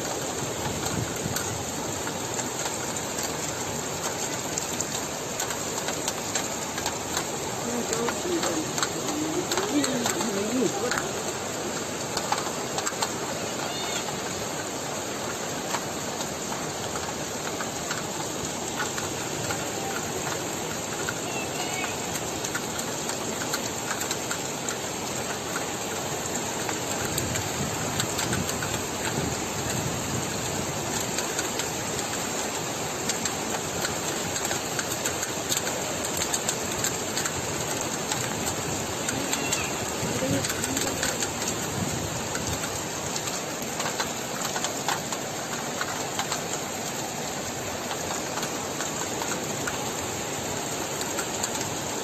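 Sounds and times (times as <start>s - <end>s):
floodwater rushing: 0.0s - 52.0s
rain: 0.0s - 52.0s.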